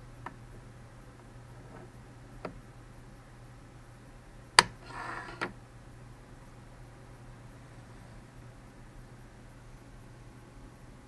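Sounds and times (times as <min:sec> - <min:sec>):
faint steady low hum: 0:00.0 - 0:11.0.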